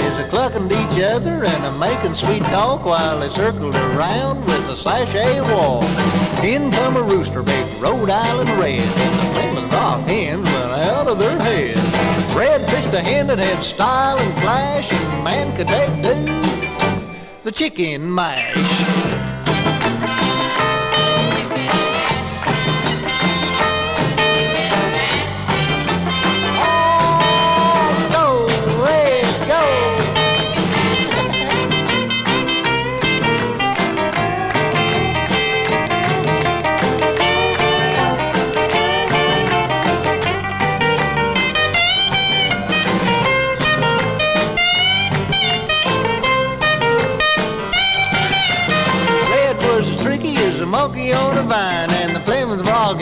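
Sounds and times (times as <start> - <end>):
band playing instrumental: 0.0 - 53.0
sliding lead guitar: 0.0 - 53.0.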